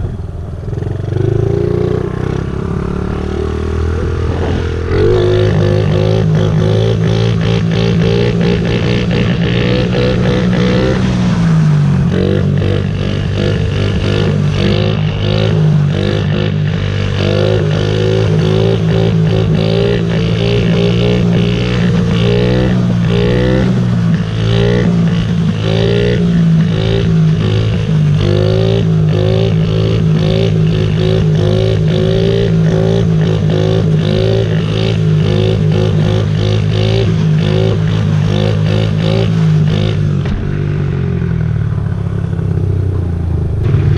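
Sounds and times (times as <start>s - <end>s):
small motorcycle engine running: 0.0s - 43.9s.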